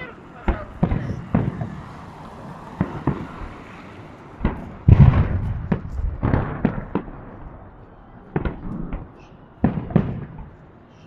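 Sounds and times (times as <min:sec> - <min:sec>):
fireworks bursting: 0:00.0 - 0:10.7.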